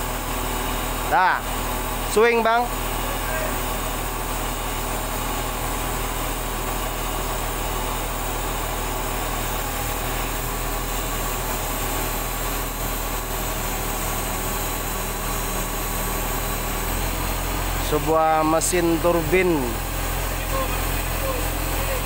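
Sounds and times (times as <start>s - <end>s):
diesel engine running steadily: 0.0s - 22.0s.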